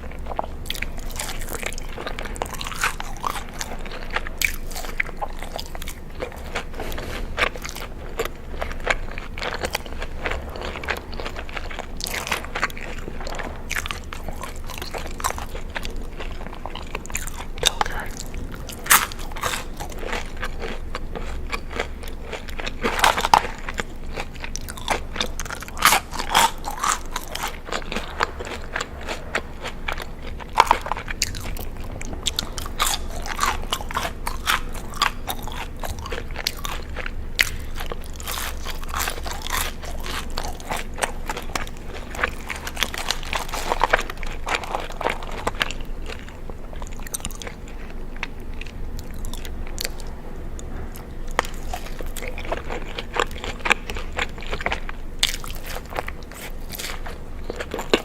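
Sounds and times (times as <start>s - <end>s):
crunchy chewing of crisp food: 0.0s - 58.0s.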